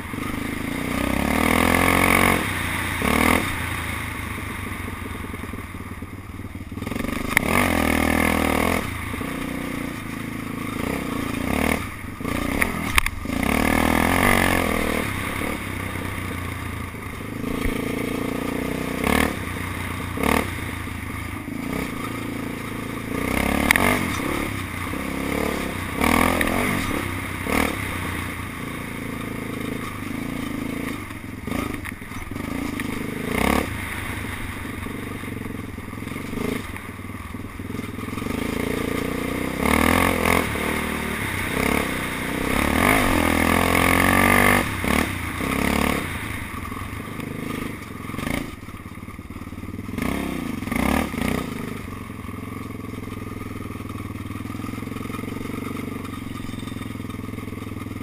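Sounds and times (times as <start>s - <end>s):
quad engine revving: 0.0s - 5.6s, 6.7s - 48.7s, 49.4s - 58.0s.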